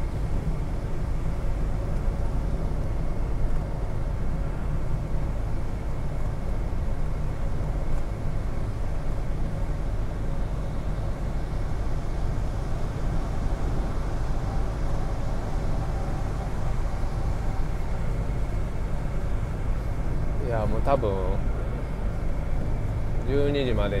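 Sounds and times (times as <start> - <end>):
car driving on wet road: 0.1 - 24.0.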